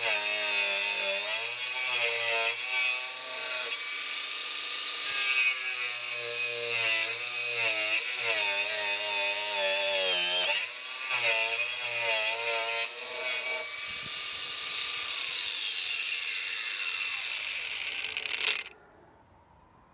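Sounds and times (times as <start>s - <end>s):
angle grinder working: 0.0s - 18.7s.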